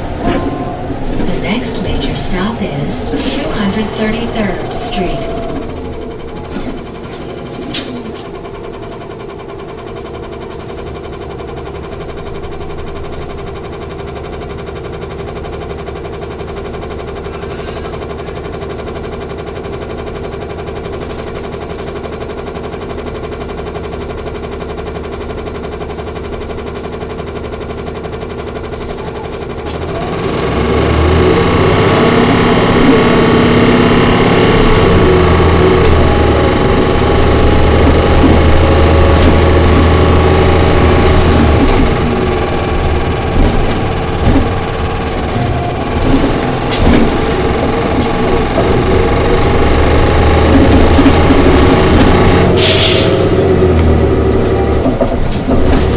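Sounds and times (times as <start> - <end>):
bus engine running: 0.0 - 55.9.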